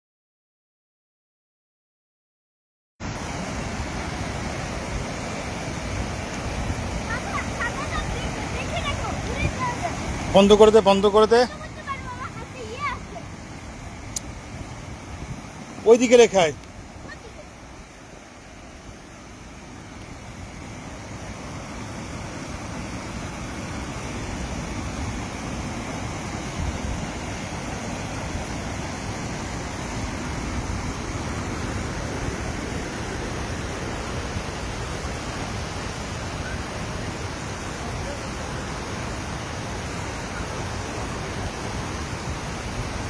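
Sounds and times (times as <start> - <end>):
river water rushing: 3.0 - 43.0.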